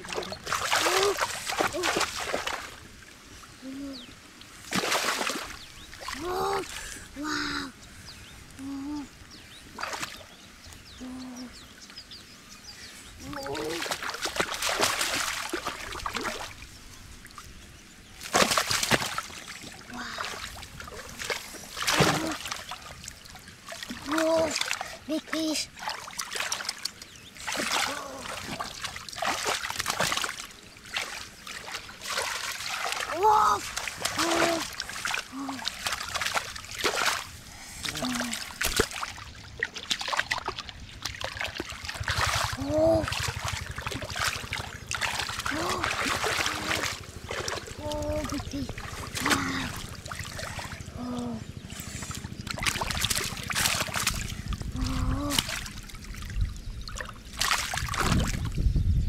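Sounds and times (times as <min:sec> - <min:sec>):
muddy water sloshing: 0:00.0 - 0:58.8.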